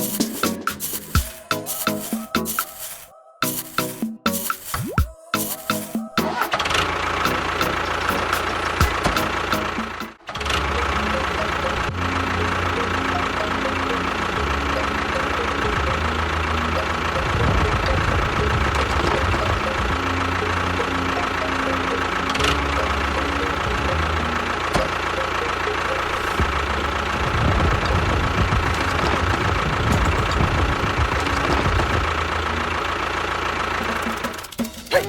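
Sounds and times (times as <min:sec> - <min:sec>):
engine running with knocking beat: 0:00.0 - 0:34.9.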